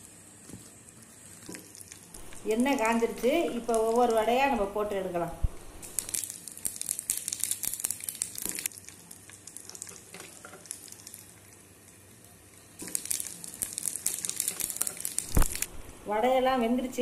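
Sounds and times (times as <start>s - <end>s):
deep-frying crackling sizzle: 0.0s - 17.0s.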